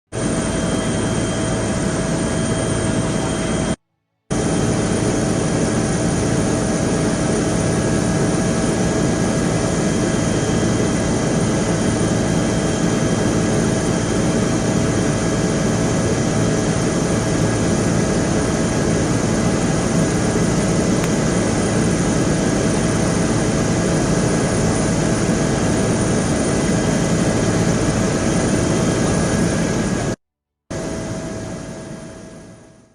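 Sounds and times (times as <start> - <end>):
aircraft engine with whine: 0.1 - 32.9.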